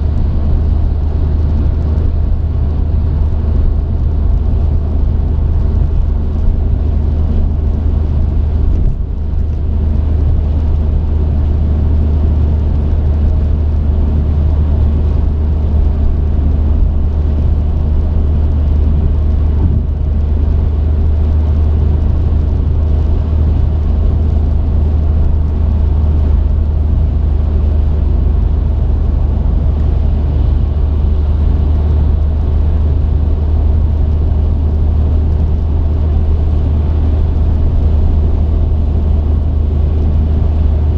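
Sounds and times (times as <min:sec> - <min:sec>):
truck engine and road drone: 0:00.0 - 0:40.9.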